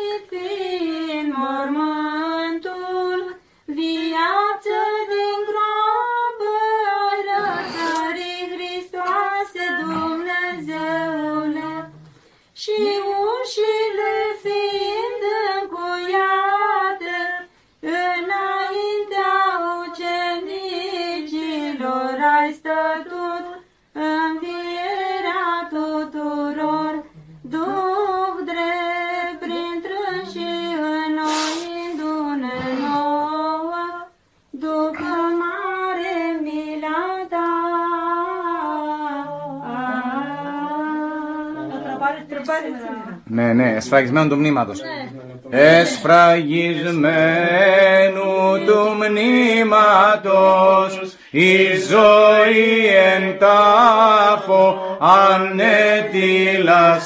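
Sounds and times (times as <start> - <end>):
women singing unaccompanied chant: 0.0 - 43.2, 45.6 - 57.0.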